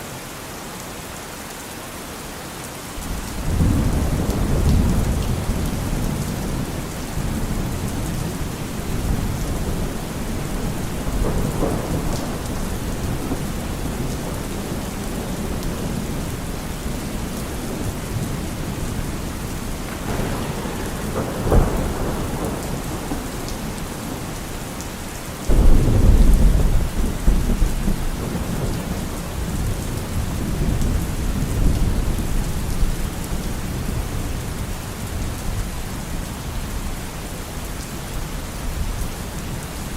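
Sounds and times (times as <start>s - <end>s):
heavy rain: 0.0s - 39.9s
rolling thunder: 3.0s - 35.6s.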